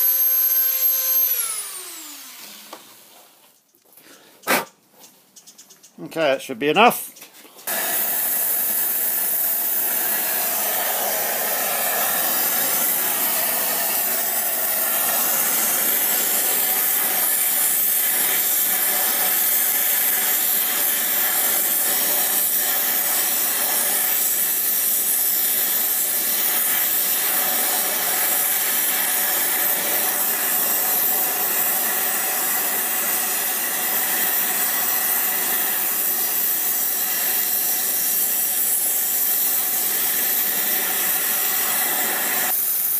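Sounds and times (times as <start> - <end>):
gas torch hissing: 0.0 - 3.2, 7.6 - 42.9.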